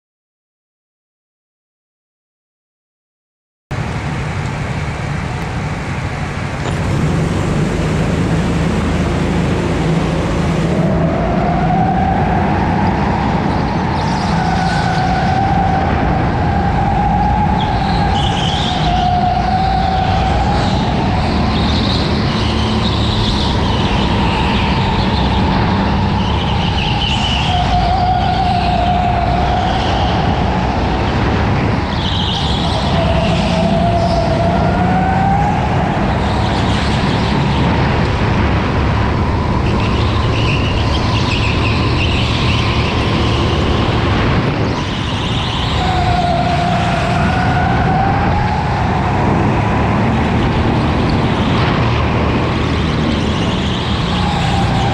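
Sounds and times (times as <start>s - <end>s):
road rumble: 3.7s - 54.9s
wind: 3.7s - 54.9s.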